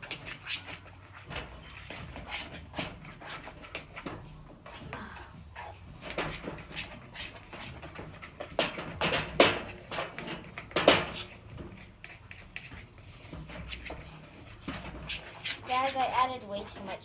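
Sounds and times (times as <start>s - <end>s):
slime stirred with a stick: 0.0s - 17.0s.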